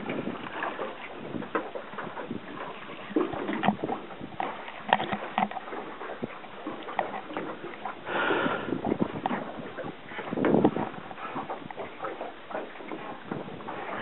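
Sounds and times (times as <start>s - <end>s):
water splashing against boat: 0.0s - 14.0s.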